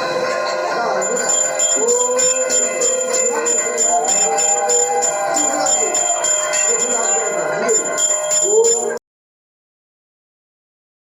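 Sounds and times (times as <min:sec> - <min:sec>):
hand bell ringing: 0:00.0 - 0:09.0
sustained wavering tones: 0:00.0 - 0:09.0.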